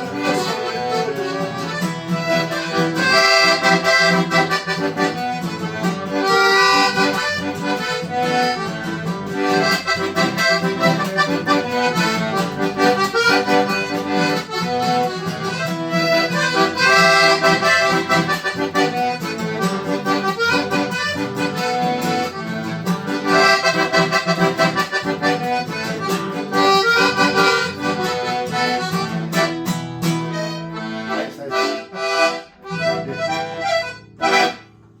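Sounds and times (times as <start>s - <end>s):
accordion playing lively tune: 0.0s - 35.0s.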